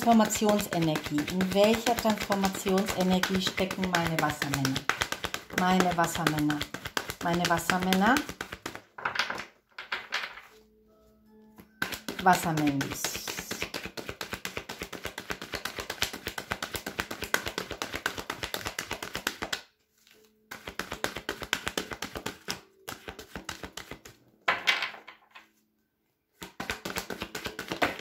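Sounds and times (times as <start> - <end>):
cards being shuffled: 0.0 - 10.7, 11.6 - 25.6, 26.3 - 28.0.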